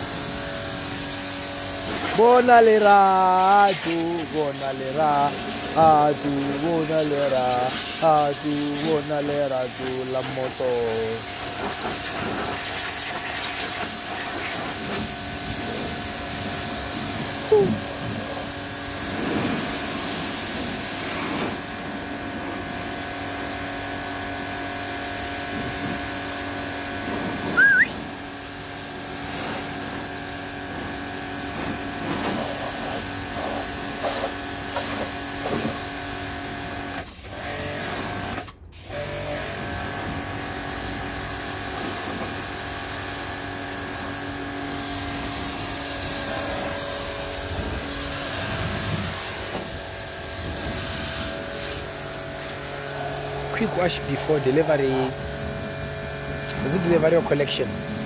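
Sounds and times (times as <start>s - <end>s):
pressure washer running: 0.0s - 58.0s.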